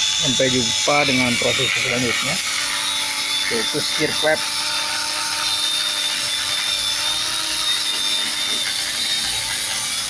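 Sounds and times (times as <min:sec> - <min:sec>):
angle grinder whining: 0:00.0 - 0:10.0.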